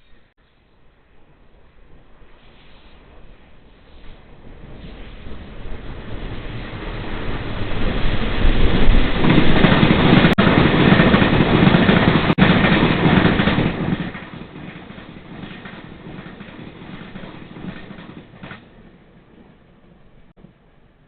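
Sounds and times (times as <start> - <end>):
train passing with rail noise: 0.0 - 21.0.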